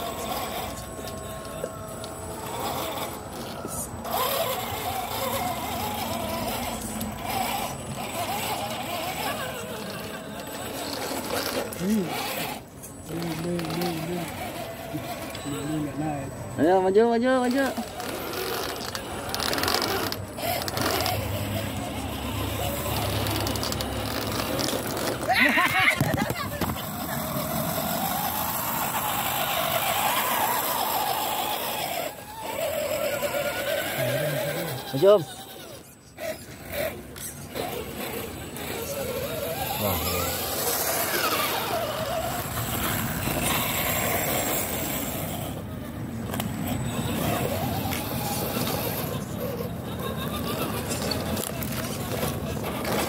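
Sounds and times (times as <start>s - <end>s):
small electric motor whining: 0.0s - 53.0s.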